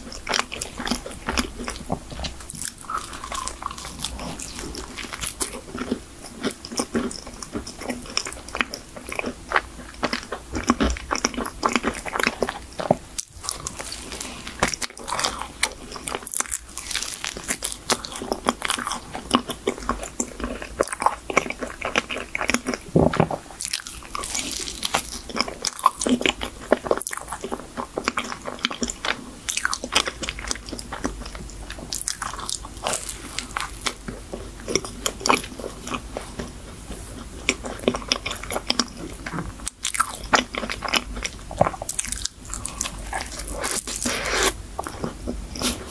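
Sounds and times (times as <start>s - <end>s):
wet chewing: 0.0s - 45.9s.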